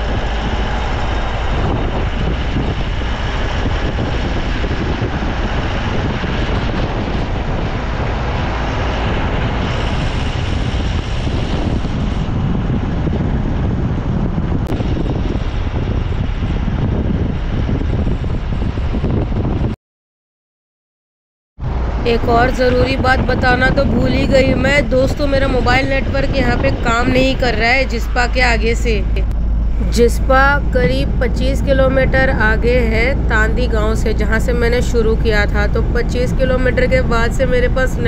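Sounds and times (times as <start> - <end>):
vehicle road and engine noise: 0.0 - 19.8, 21.6 - 38.0
wind rumbling on microphone: 0.0 - 19.8, 21.6 - 38.0.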